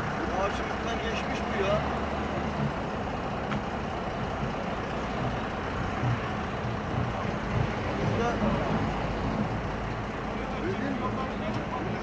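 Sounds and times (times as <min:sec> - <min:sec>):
low rumble of vehicle engines: 0:00.0 - 0:12.0.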